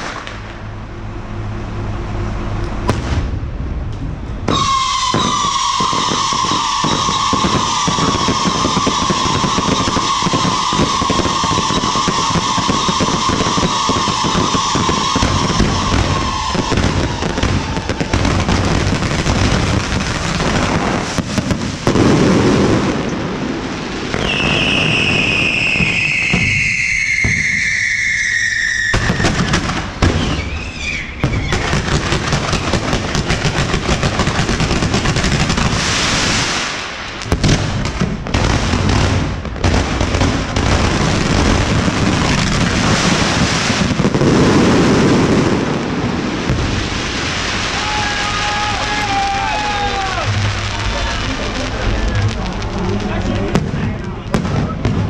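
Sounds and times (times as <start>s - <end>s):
whistling firework: 0.0s - 0.5s, 4.4s - 55.0s
fireworks crackling and banging: 0.0s - 1.0s, 2.4s - 55.0s.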